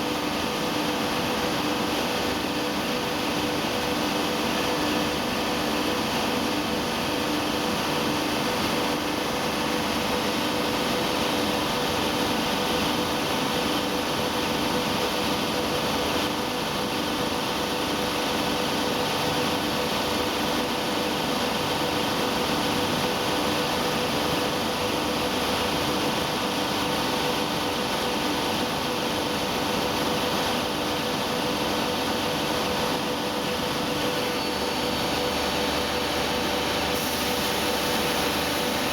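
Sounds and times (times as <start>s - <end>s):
factory machinery humming: 0.0s - 38.9s.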